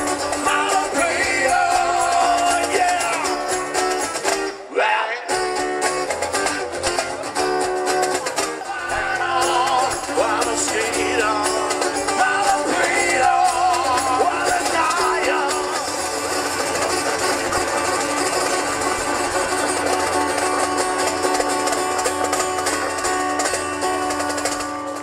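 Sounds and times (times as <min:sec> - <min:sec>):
cajon with cymbal: 0:00.0 - 0:04.7, 0:05.4 - 0:25.0
strummed acoustic guitar: 0:00.0 - 0:25.0
upright bass: 0:00.0 - 0:25.0.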